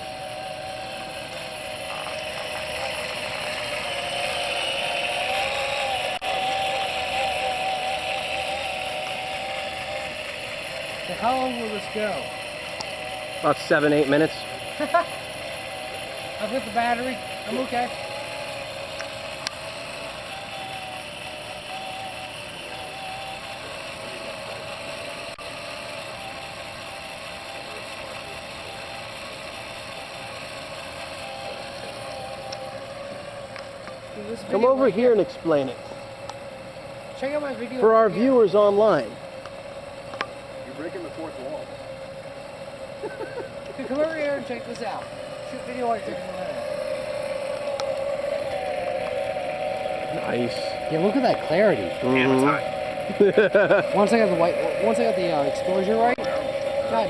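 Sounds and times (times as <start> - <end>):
flame column rushing: 0.0 - 57.0
motor whine: 0.0 - 57.0.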